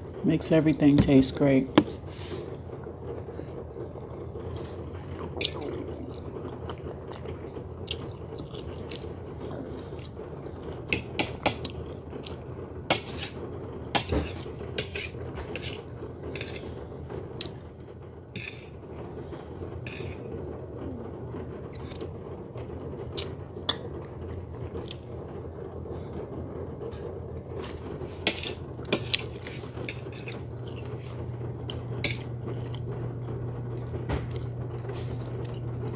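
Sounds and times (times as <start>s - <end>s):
low background hum: 0.0s - 35.9s.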